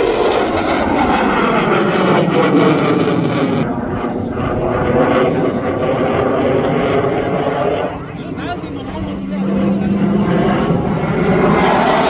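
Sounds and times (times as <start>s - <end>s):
fighter jet flying over: 0.0s - 12.0s.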